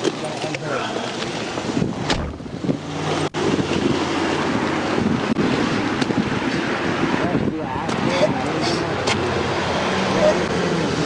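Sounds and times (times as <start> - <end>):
road and vehicle noise: 0.0 - 11.0
wind buffeting microphone: 0.0 - 11.0.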